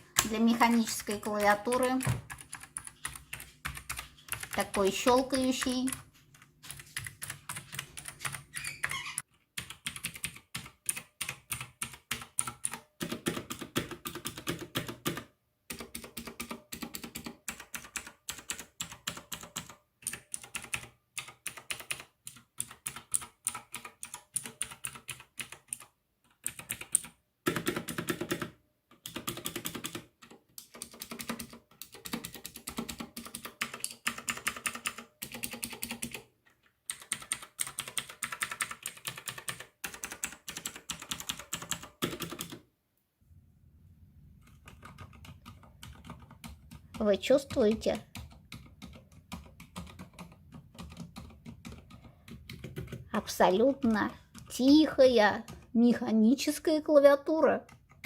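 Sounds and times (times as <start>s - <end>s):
mechanical keyboard typing: 0.0s - 36.3s, 36.9s - 42.6s, 44.4s - 56.5s.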